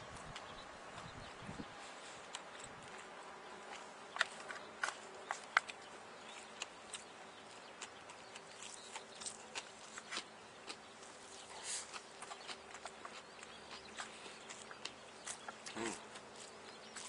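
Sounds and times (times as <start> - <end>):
mouth chewing: 2.0 - 17.0.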